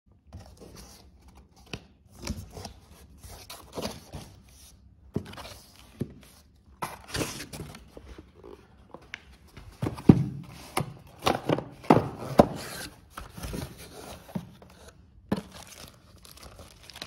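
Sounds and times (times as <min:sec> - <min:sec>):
cardboard flaps scraping and rustling: 0:00.3 - 0:17.0.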